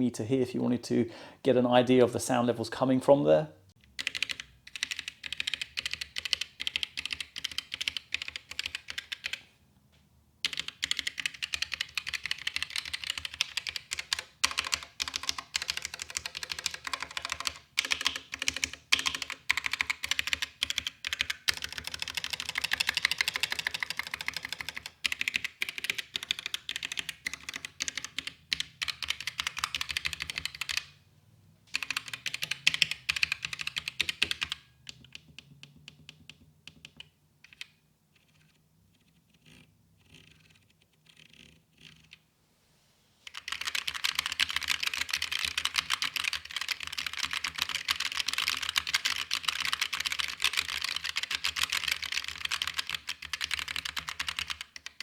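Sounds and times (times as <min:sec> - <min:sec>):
mechanical keyboard typing: 0:03.8 - 0:09.4, 0:10.4 - 0:30.9, 0:31.7 - 0:42.2, 0:43.3 - 0:55.0.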